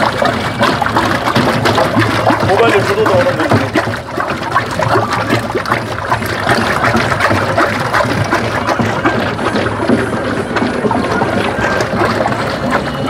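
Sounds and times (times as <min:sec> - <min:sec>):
pole slapping and scraping pot: 0:00.0 - 0:13.0
wet sloshing in a metal pot: 0:00.0 - 0:13.0.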